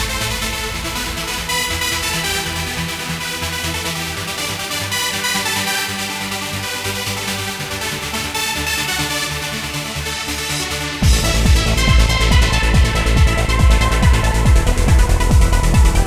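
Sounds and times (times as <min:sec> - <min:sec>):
trance music synth chords: 0:00.0 - 0:16.0.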